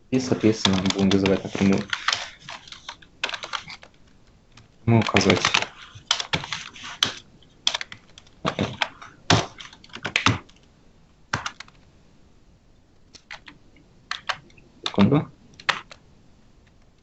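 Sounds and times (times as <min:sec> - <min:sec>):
typing on keyboard: 0:00.3 - 0:10.6, 0:11.3 - 0:11.8, 0:13.1 - 0:16.0.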